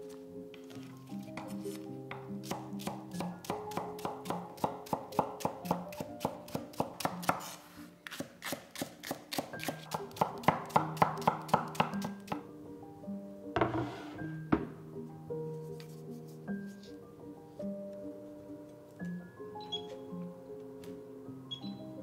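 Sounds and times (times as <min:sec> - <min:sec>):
soft background music: 0:00.0 - 0:22.0.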